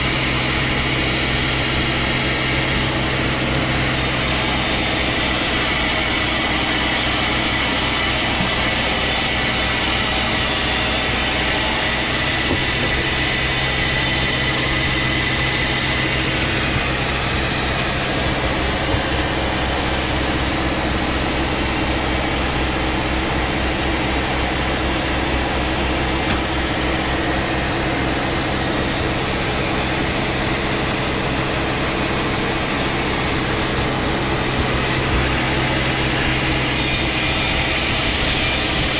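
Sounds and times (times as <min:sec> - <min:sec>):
engine-driven saw cutting timber: 0:00.0 - 0:38.9.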